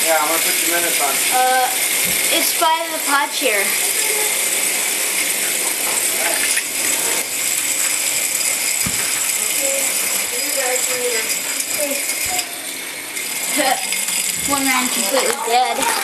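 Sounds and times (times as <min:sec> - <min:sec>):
toy robots buzzing and rattling: 0:00.0 - 0:16.0.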